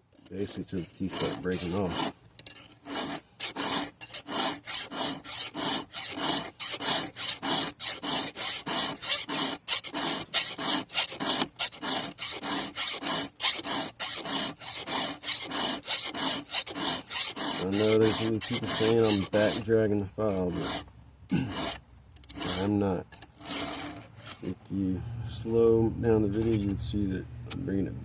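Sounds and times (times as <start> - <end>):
file rasping on chainsaw chain: 0.2 - 24.7, 26.4 - 26.7.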